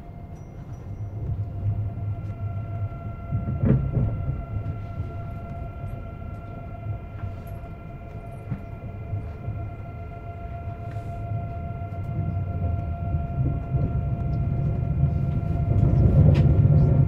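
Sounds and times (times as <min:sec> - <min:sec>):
electric train inverter whine: 0:00.0 - 0:17.0
low running rumble: 0:00.0 - 0:17.0.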